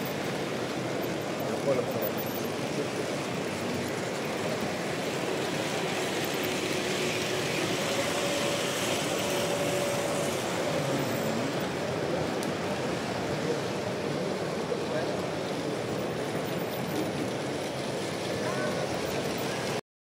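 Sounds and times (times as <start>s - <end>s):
exhibition hall crowd din: 0.0s - 19.8s
model trains running on track: 0.0s - 19.8s.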